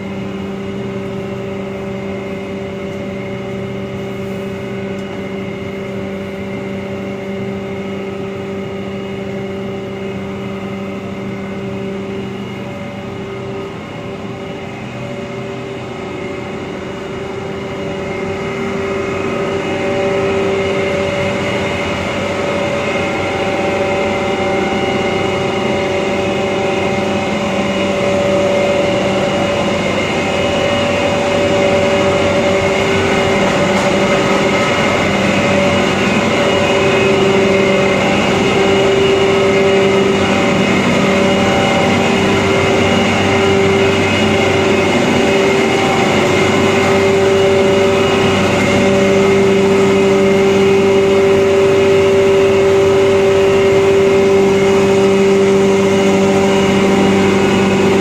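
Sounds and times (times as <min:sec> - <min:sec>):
grinding machine droning hum: 0:00.0 - 0:58.0.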